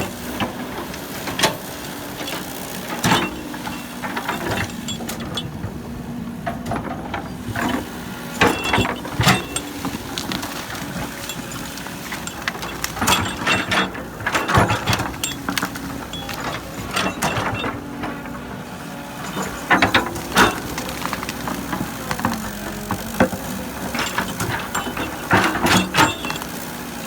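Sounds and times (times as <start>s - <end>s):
diesel engine running: 0.0s - 27.0s
metallic clanking and rattling: 2.3s - 5.8s, 6.4s - 26.9s.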